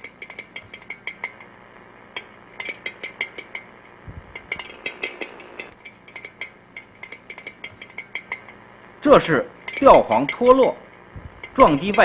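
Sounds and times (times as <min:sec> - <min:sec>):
metallic knocking inside compressor: 0:00.0 - 0:01.5, 0:02.1 - 0:12.0
refrigerator compressor running: 0:00.0 - 0:12.0.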